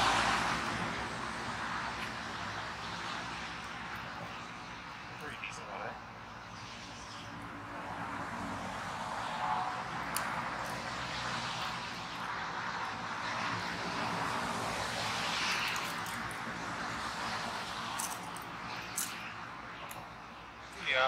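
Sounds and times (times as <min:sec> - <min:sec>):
outdoor rushing noise: 0:00.0 - 0:21.0.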